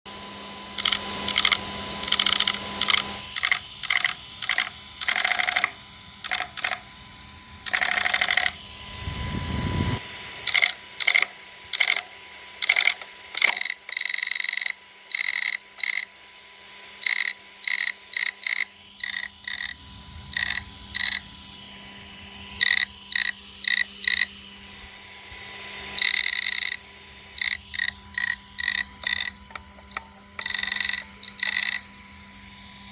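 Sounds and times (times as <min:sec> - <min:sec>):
high-pitched electric motor whine: 0:00.1 - 0:32.9.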